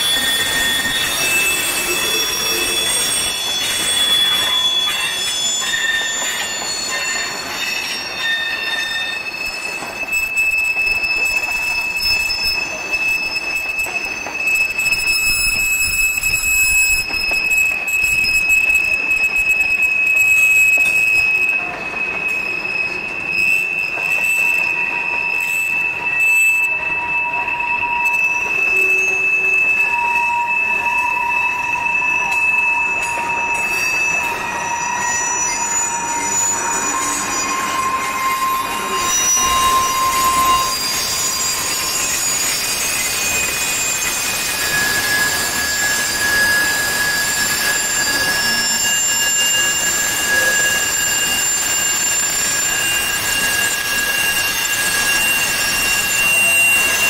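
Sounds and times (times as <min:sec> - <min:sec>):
rumble of train cars: 0:00.0 - 0:57.0
train wheels squealing: 0:00.0 - 0:57.0.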